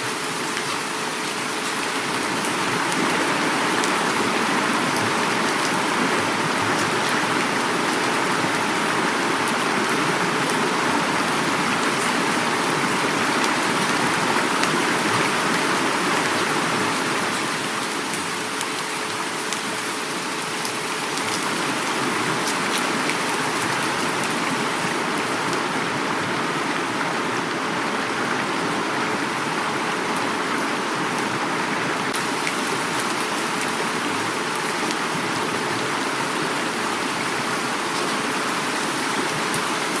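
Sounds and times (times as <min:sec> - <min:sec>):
heavy rain: 0:00.0 - 0:40.0
river flowing: 0:00.0 - 0:40.0.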